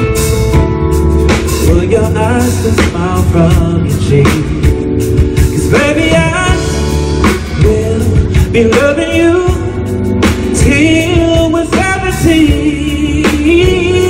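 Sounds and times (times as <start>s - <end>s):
live band playing pop ballad: 0.0s - 14.0s
person singing: 1.5s - 9.9s, 10.5s - 14.0s.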